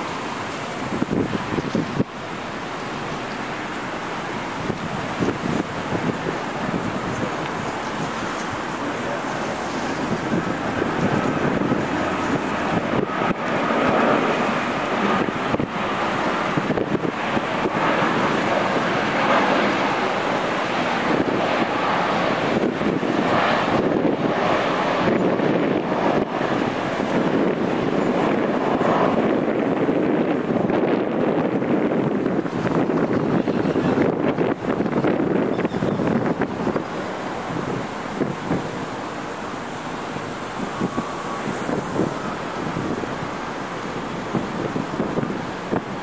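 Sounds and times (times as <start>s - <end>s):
highway traffic cars passing: 0.0s - 46.0s.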